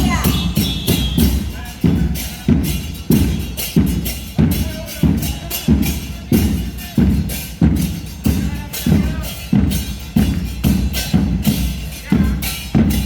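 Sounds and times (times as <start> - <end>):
heavy drum strikes: 0.0 - 13.0.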